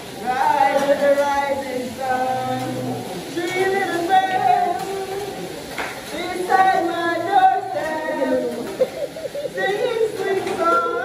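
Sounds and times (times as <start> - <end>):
high voice singing: 0.1 - 11.0.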